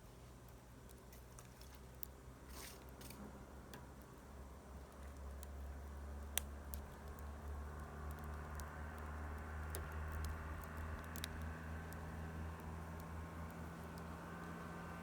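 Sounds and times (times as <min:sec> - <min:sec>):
bonfire crackling and popping: 0:00.4 - 0:15.0.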